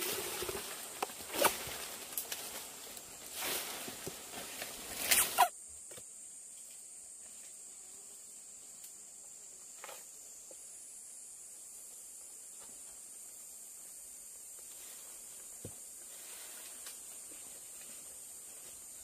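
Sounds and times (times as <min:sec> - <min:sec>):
forest insects droning: 0:00.0 - 0:19.0.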